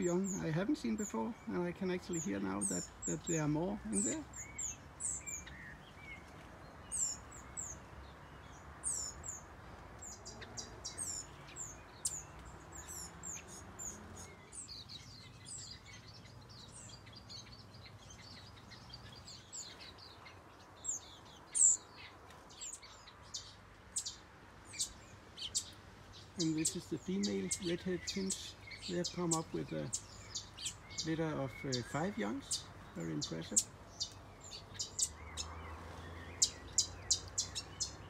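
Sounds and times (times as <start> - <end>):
finches chirping: 0.0 - 38.0.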